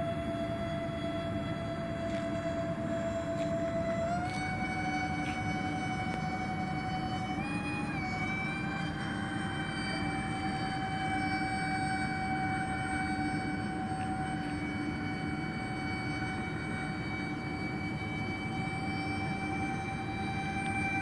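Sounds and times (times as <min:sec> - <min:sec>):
electric fans high-pitched whine: 0:00.0 - 0:21.0.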